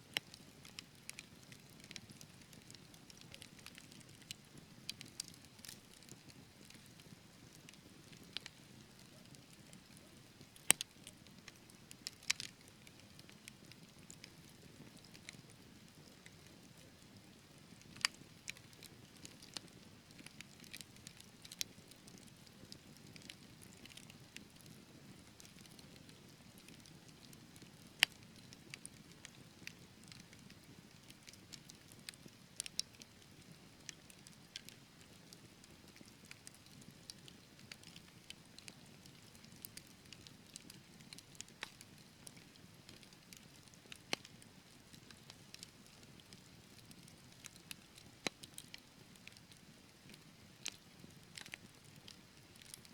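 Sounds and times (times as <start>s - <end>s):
logs crackling and popping: 0.1s - 52.9s.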